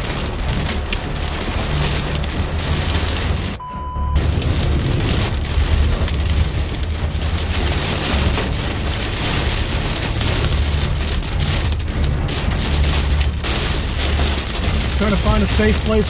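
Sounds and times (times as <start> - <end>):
car rumbling on wet road: 0.0 - 16.0
rain drops hitting car: 0.0 - 16.0.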